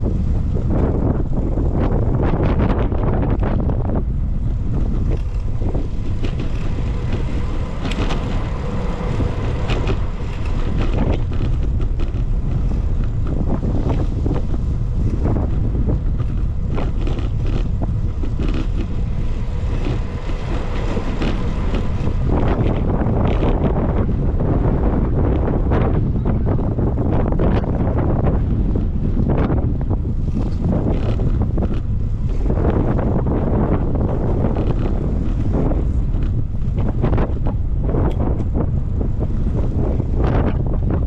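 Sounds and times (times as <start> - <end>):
road traffic: 0.0 - 41.0
wind rumbling on microphone: 0.0 - 41.0
bicycle clicks and rattles: 1.6 - 24.2, 25.0 - 41.0.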